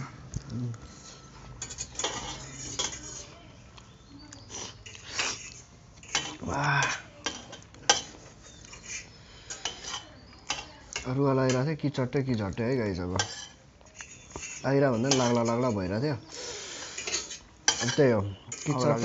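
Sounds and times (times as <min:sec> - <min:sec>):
cutlery clinking on metal plates: 0:00.9 - 0:03.4, 0:04.4 - 0:12.0, 0:13.0 - 0:16.0, 0:16.7 - 0:19.0.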